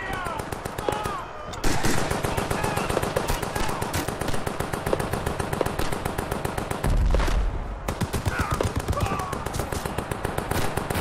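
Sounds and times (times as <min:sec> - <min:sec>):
machine-gun and rifle fire: 0:00.0 - 0:11.0.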